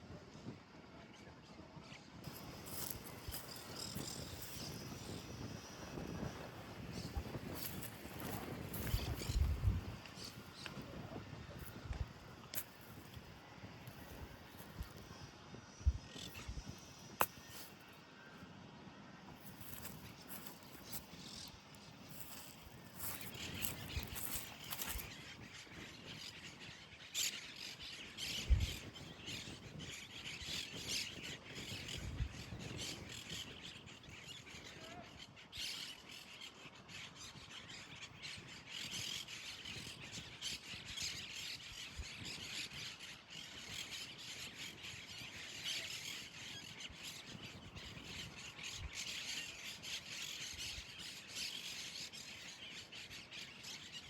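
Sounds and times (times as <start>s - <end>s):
birds chirping: 2.3s - 18.4s, 19.3s - 54.0s.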